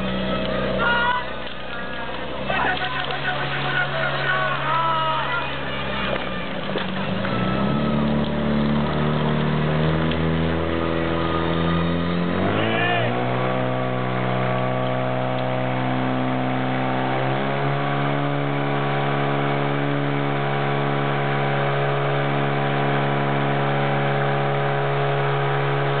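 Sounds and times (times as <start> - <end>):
pump engine running under load: 0.0 - 26.0.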